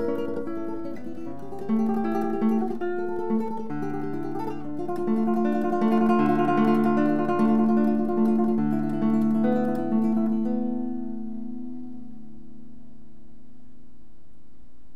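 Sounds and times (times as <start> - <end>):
classical guitar fingerstyle: 0.0 - 14.1.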